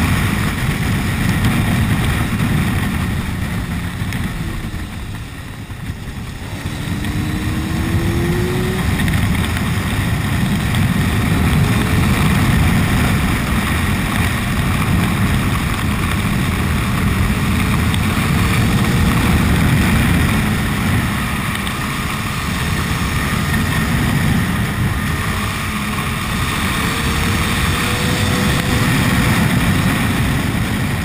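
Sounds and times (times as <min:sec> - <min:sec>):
motorcycle engine accelerating: 0:00.0 - 0:31.0
wind rushing on microphone: 0:00.0 - 0:31.0.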